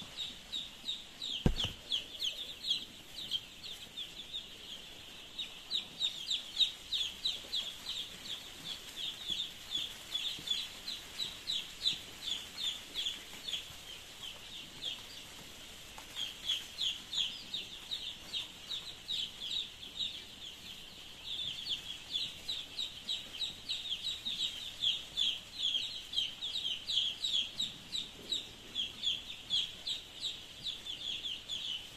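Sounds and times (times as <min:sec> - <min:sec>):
chicks peeping: 0:00.0 - 0:31.9.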